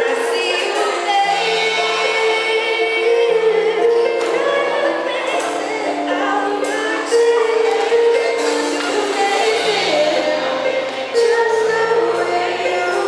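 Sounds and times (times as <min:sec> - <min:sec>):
live band playing: 0:00.0 - 0:13.0
voices singing: 0:00.0 - 0:13.0.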